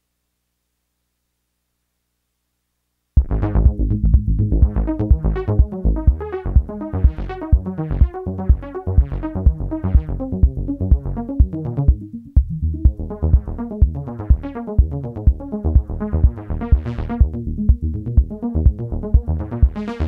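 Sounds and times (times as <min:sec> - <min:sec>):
drum machine bass hits: 0:03.2 - 0:20.0
synth notes: 0:03.2 - 0:20.0.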